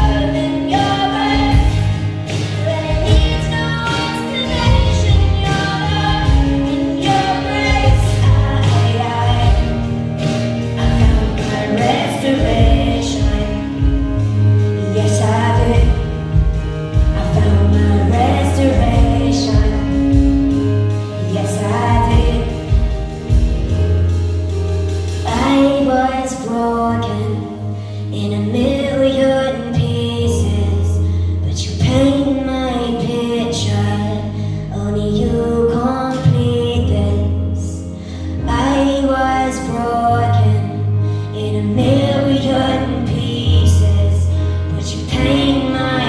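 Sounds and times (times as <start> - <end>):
woman singing: 0.0 - 24.0, 25.1 - 46.0
pop band with bass and beat: 0.0 - 46.0.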